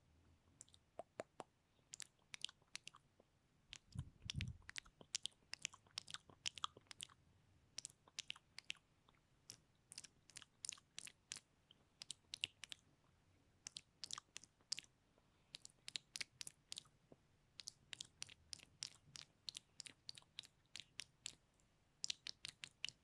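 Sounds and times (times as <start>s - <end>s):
wet mouth clicks and smacks: 0.6s - 3.0s, 3.7s - 7.2s, 7.8s - 12.8s, 13.6s - 14.9s, 15.5s - 16.9s, 17.6s - 21.4s, 22.0s - 23.0s.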